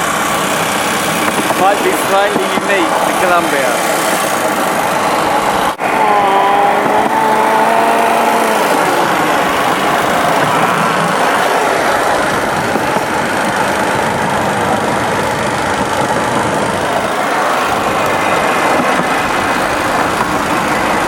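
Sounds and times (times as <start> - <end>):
trolley rolling on railway track: 0.0 - 5.8, 8.1 - 21.0
motorcycle engine running: 0.0 - 21.0.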